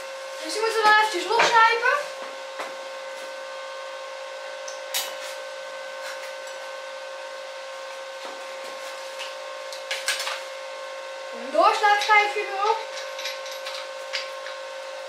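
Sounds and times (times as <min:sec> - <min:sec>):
fan motor whine: 0:00.0 - 0:15.0.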